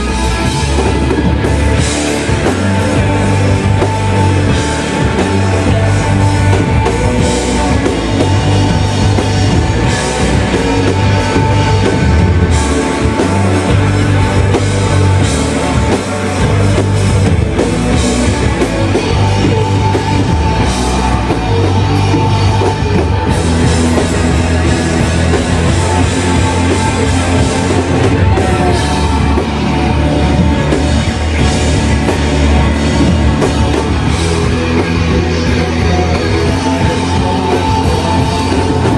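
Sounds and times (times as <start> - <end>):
bass guitar: 0.0 - 38.9
distorted electric guitars: 0.0 - 38.9
drum kit with crashing cymbals: 0.0 - 38.9.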